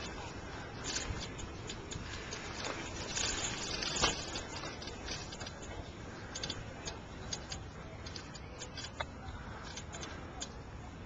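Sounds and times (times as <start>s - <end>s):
bicycle rattling clicks: 0.0s - 10.6s
road and wind noise: 0.0s - 11.0s.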